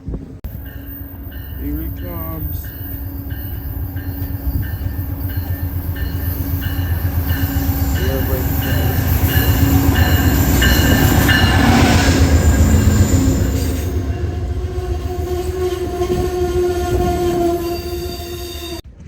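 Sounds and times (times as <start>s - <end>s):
train locomotive rumble: 0.0s - 19.0s.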